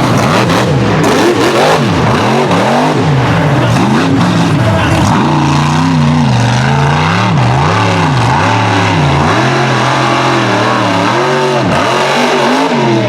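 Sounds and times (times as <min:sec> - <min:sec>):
truck engine revving loud: 0:00.0 - 0:13.0.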